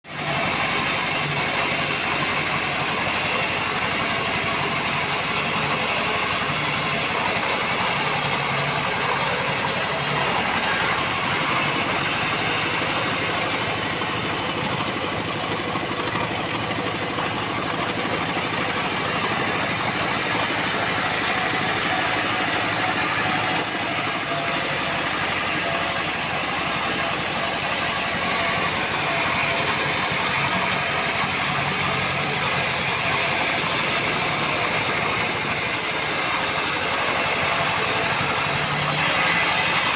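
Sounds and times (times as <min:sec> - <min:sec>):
power saw cutting wood: 0:00.0 - 0:39.9
saw motor running: 0:00.0 - 0:39.9.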